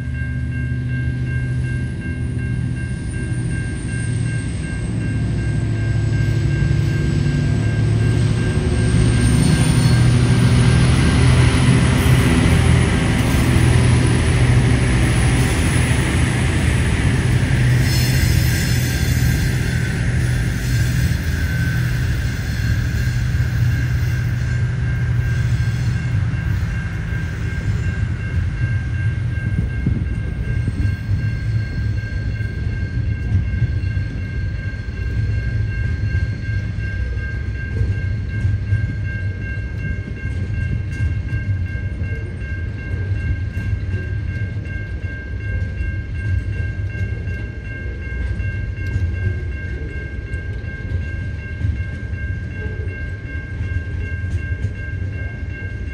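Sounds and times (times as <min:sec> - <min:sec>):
freight wagons rumbling on rails: 0:00.0 - 0:55.9
steady high ringing tone: 0:00.0 - 0:55.9.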